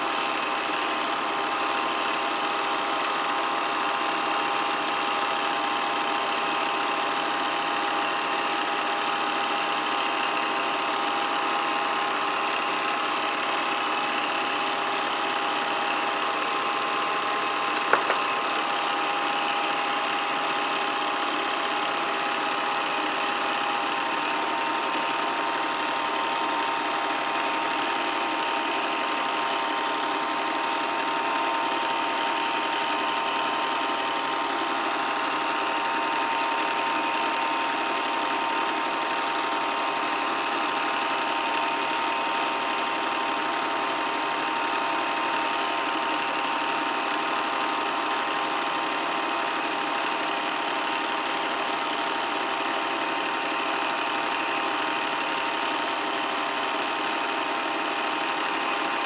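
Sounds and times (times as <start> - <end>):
film projector whirring and clattering: 0.0 - 59.0.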